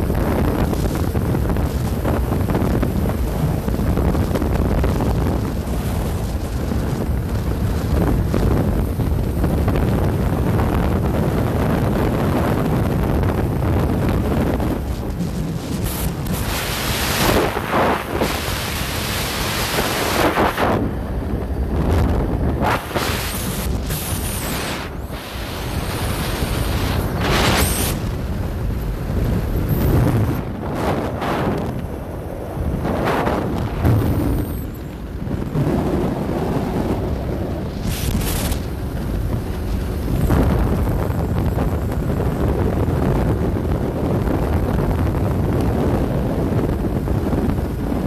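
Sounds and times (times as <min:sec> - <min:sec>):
motorcycle rumble: 0:00.0 - 0:48.0
wind blasting across microphone: 0:00.0 - 0:48.0.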